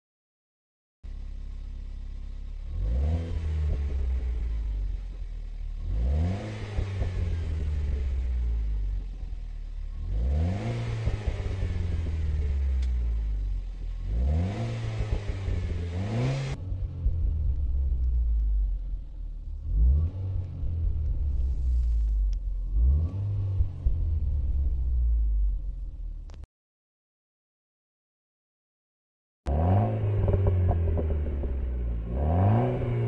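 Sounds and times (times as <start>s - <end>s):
car engine revving and idling: 1.1s - 26.5s, 29.5s - 33.0s.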